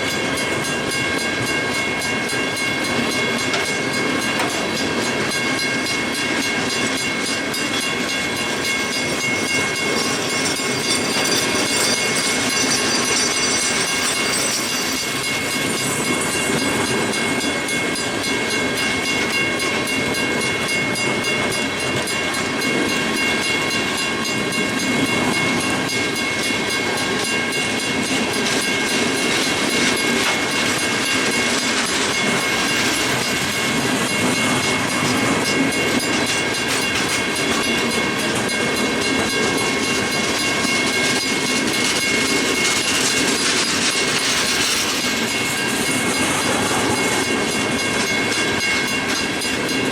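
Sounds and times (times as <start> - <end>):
high-pitched wheel ringing: 0.0 - 49.9
train wheels clacking over joints: 0.0 - 49.9.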